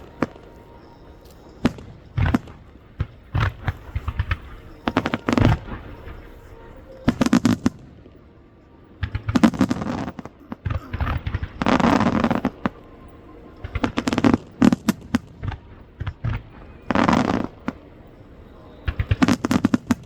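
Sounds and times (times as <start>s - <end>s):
fireworks cracks and bangs: 0.0s - 8.2s, 9.0s - 12.9s, 13.6s - 17.9s, 18.8s - 20.0s.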